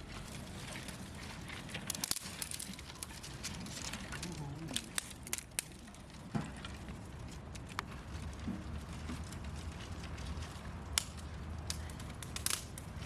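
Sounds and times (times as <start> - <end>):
low steady rumble: 0.0 - 13.0
wood fire crackling and popping: 0.0 - 13.0.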